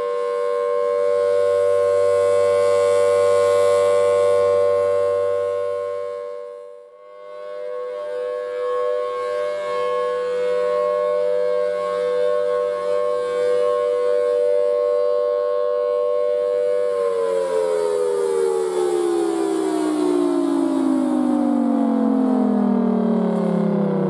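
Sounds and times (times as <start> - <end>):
siren two-tone wail: 0.0 - 24.0.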